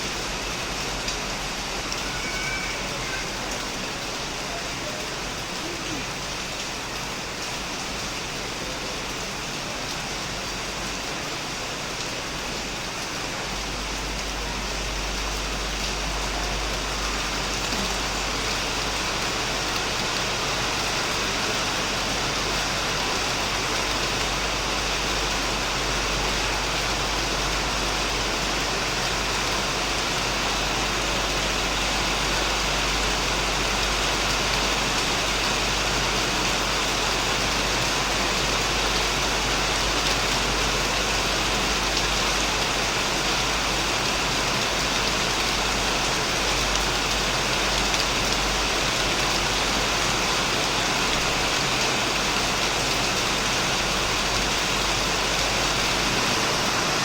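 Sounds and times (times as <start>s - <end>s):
heavy rain on a shed: 0.0s - 57.0s.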